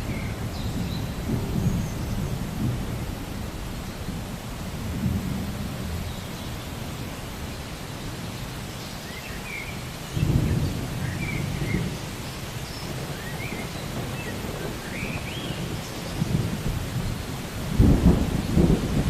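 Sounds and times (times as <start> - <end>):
rumble of thunder: 0.0 - 7.5, 9.8 - 19.0
steady rain: 0.0 - 19.0.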